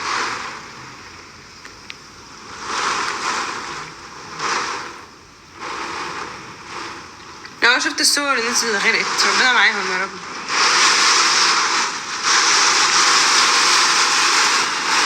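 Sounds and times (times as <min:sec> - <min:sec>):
gusting wind and rain: 0:00.0 - 0:15.0.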